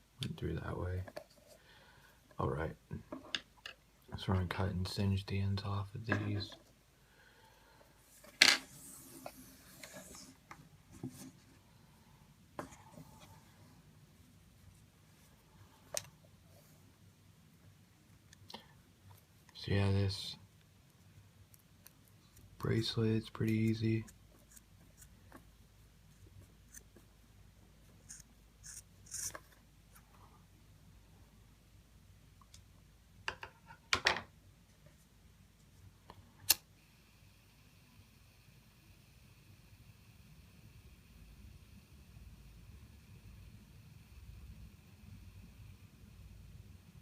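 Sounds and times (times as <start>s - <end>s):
soft hiss: 0.0s - 33.2s, 34.4s - 47.0s.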